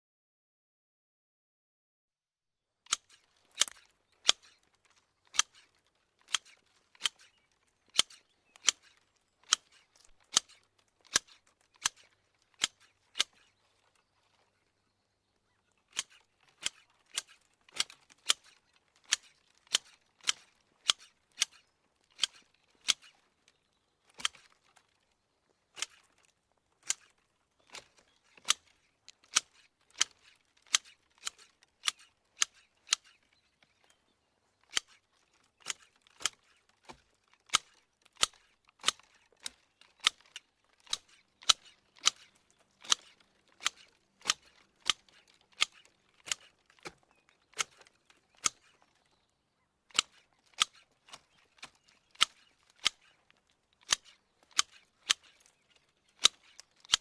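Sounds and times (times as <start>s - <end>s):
hedge shears snipping twigs: 2.9s - 14.5s, 15.8s - 25.1s, 25.7s - 34.0s, 34.6s - 49.2s, 49.8s - 57.0s.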